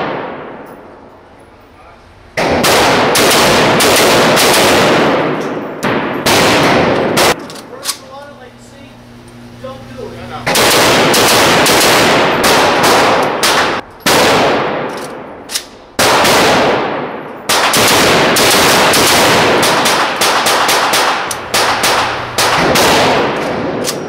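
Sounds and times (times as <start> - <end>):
rifle shots echoing: 0.0 - 1.1, 2.4 - 7.5, 10.4 - 24.0.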